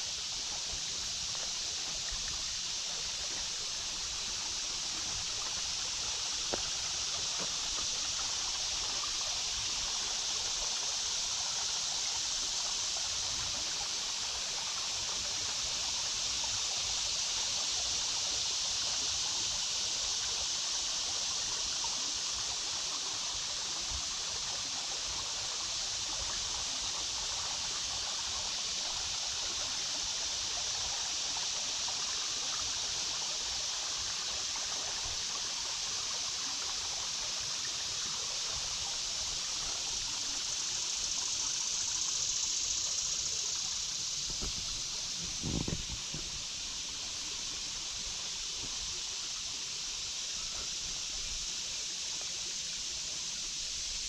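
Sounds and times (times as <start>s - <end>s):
creek babbling: 0.0s - 19.2s, 21.0s - 54.0s.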